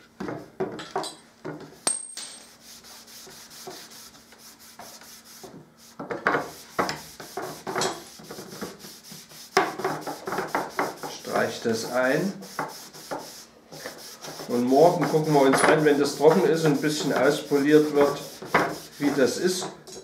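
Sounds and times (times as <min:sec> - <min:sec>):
cloth rubbing on wooden board: 0:02.5 - 0:19.6.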